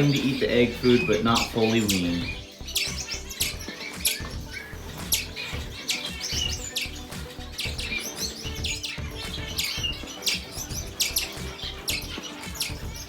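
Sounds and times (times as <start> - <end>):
parakeets chirping: 0.0 - 13.0
quiet background music: 0.0 - 13.0.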